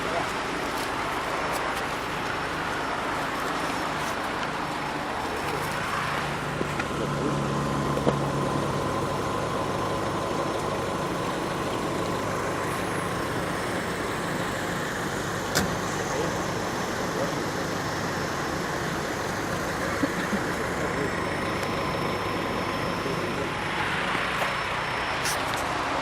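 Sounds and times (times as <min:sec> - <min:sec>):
low engine drone: 0:00.0 - 0:26.0
traffic noise: 0:00.0 - 0:26.0.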